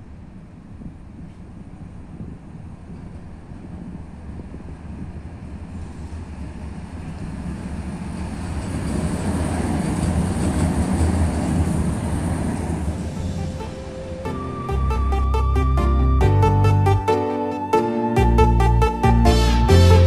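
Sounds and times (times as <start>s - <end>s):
tram passing on tracks: 0.0s - 20.0s.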